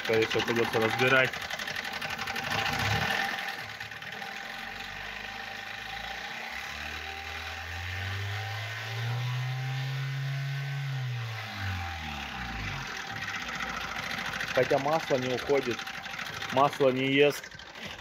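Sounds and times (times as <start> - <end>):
car engine knocking and revving: 0.0 - 18.0.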